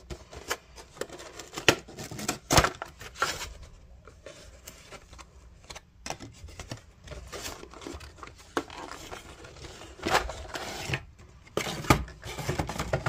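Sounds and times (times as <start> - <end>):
cardboard scraping and rustling: 0.0 - 13.0.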